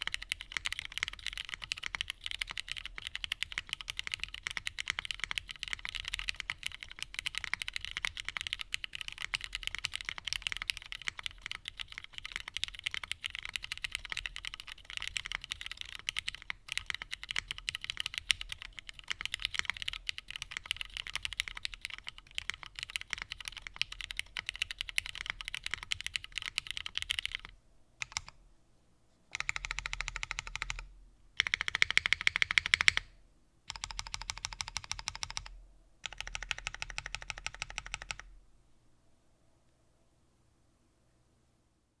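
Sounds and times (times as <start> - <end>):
mechanical keyboard typing: 0.0 - 28.4, 29.3 - 38.3.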